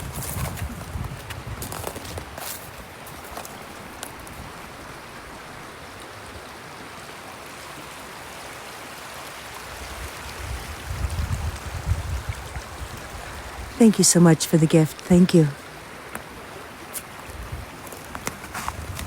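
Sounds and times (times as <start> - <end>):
brook water running: 0.0 - 19.0.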